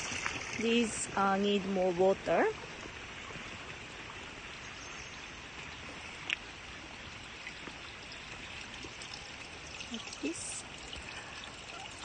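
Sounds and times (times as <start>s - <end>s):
water trickling into paddy: 0.0s - 12.0s.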